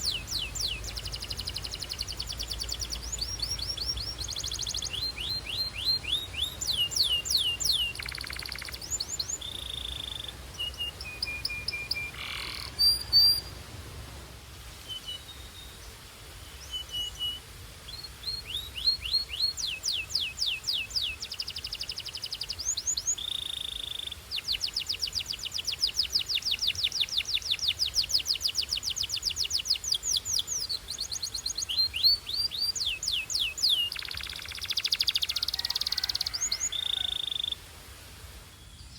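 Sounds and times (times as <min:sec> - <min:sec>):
canary singing: 0:00.0 - 0:13.6, 0:18.3 - 0:37.6.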